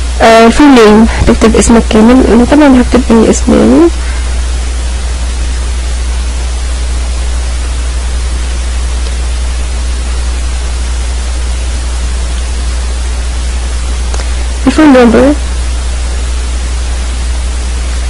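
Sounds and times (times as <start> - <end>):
electrical hum: 0.0 - 18.0
microphone hiss: 0.0 - 18.0.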